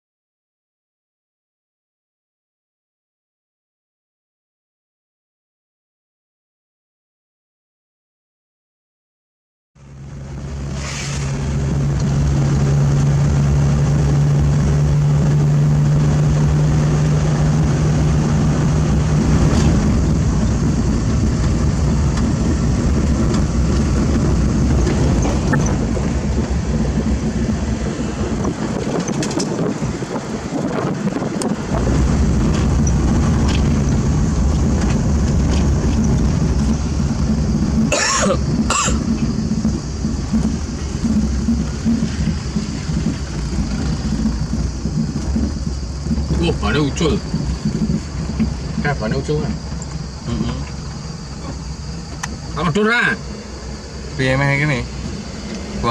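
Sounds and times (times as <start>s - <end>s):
diesel engine running: 9.8s - 55.9s.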